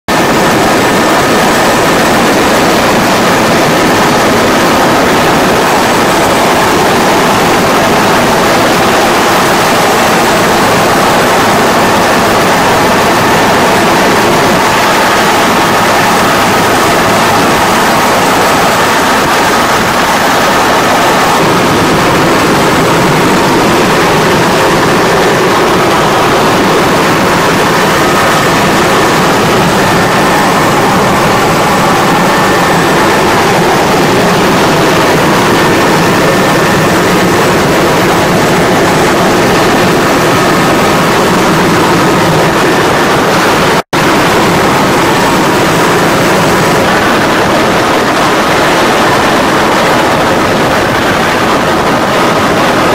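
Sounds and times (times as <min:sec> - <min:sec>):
helicopter engines and rotor: 0:00.0 - 0:52.9.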